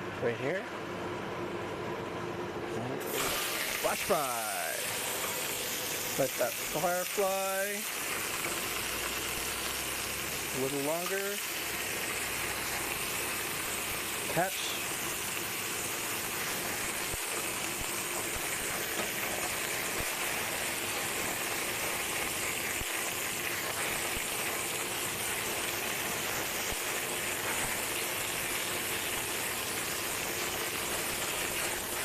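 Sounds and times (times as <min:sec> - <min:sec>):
vegetables sizzling in hot oil: 0:03.0 - 0:32.0.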